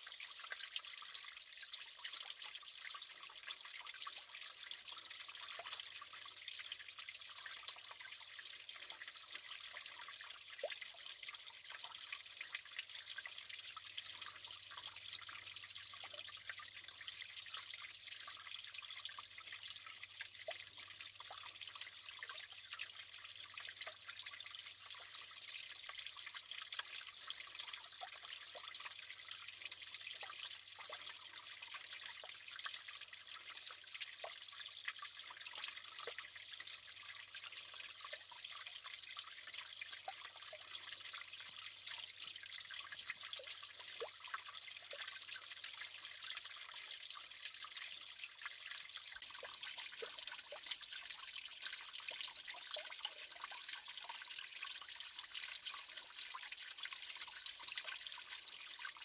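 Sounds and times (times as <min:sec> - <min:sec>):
water drips and splashes: 0:00.0 - 0:59.0
water trickling over stones: 0:00.0 - 0:59.0.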